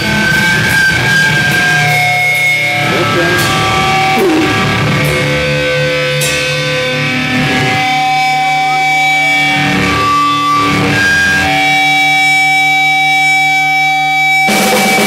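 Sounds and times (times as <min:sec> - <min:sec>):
drums with cymbal hits: 0:00.0 - 0:12.5, 0:14.2 - 0:15.0
distorted electric guitar chords: 0:00.0 - 0:15.0.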